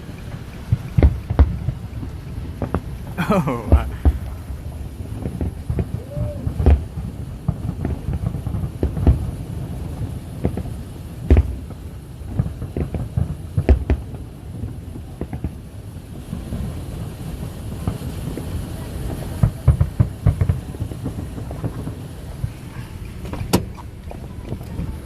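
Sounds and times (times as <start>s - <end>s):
fireworks bangs and booms: 0.0s - 25.0s.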